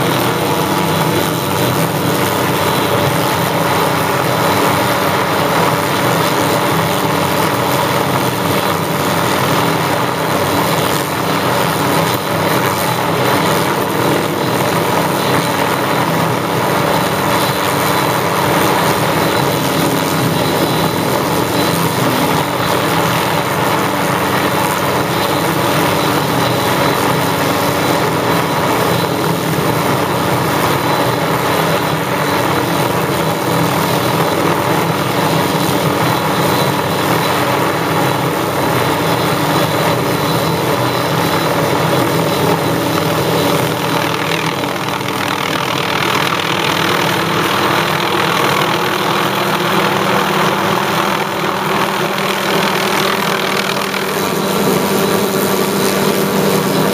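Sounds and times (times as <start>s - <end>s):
helicopter engine and rotor drone: 0.0s - 56.9s.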